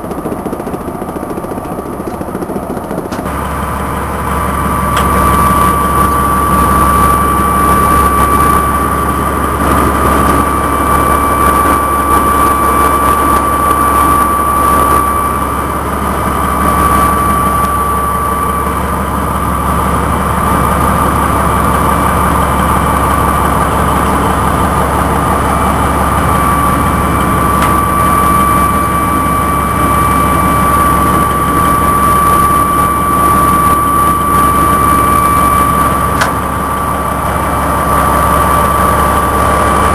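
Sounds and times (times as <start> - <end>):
grinder engine drone: 0.0 - 39.9
high whine: 0.0 - 39.9.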